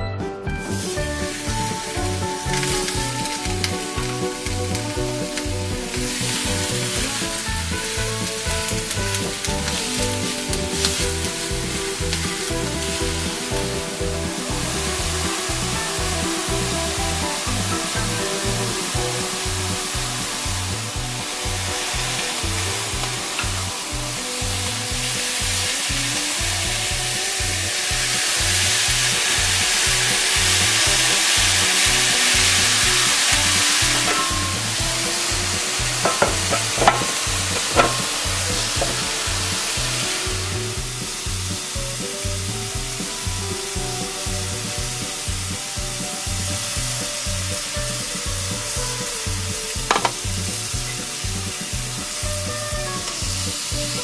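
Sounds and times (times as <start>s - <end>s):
background music with steady beat: 0.0s - 54.0s
fish sizzling in grill pan: 0.7s - 54.0s.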